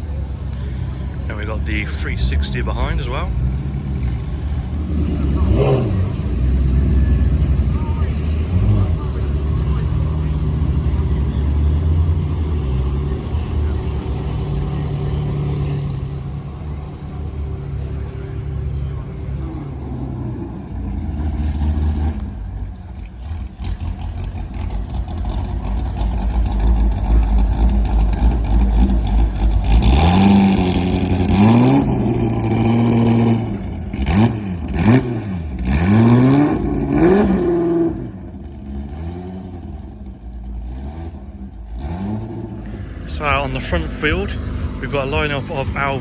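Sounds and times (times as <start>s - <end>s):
car engine running and revving: 0.0s - 46.0s.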